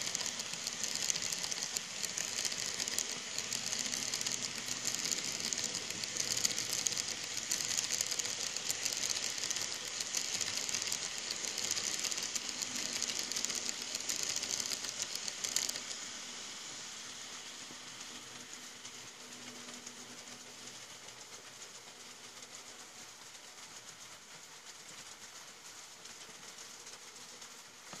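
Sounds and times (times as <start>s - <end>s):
faint motor hum: 0.0s - 28.0s
model train wheels clicking: 0.0s - 28.0s.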